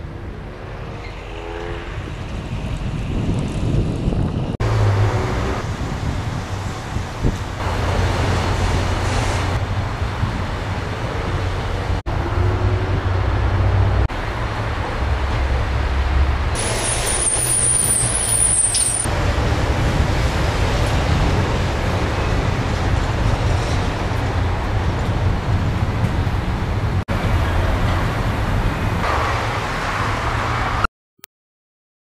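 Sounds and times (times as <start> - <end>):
street traffic passing: 0.0 - 30.9.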